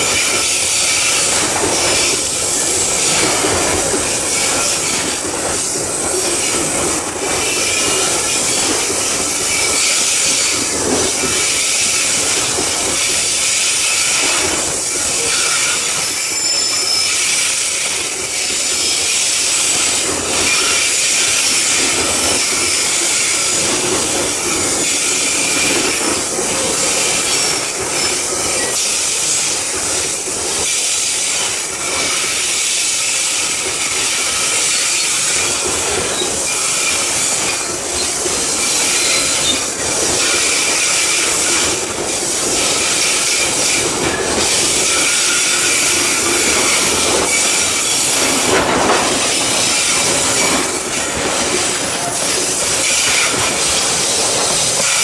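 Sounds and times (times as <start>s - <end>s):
train wheels squealing on rails: 0.0s - 55.0s.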